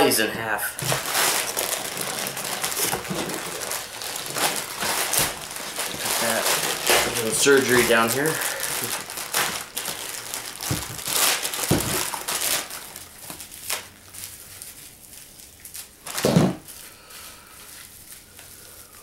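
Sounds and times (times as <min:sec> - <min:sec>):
plastic bag crinkling: 0:00.7 - 0:19.0.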